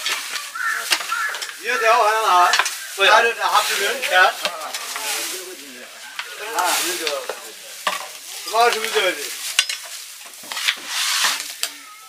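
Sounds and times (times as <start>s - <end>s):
food scraping and rustling: 0.0s - 12.0s.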